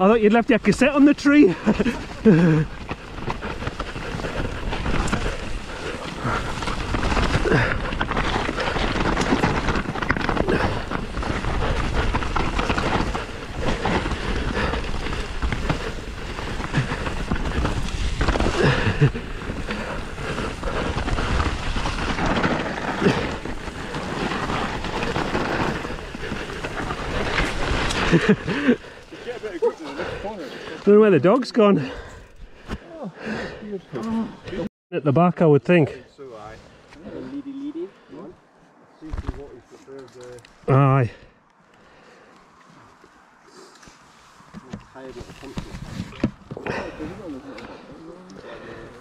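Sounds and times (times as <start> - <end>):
bike tyres rushing on dirt: 0.0 - 34.7, 38.9 - 49.0.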